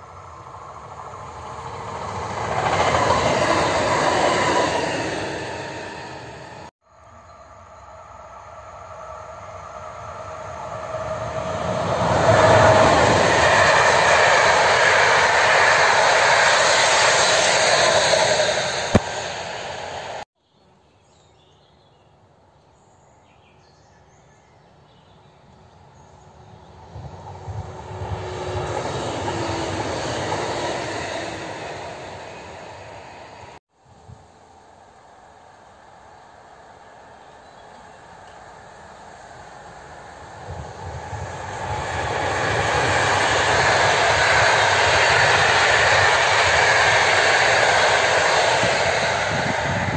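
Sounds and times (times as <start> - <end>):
train approaching: 0.0 - 20.3, 25.2 - 49.9
train passing at speed: 0.0 - 20.3, 25.4 - 49.9.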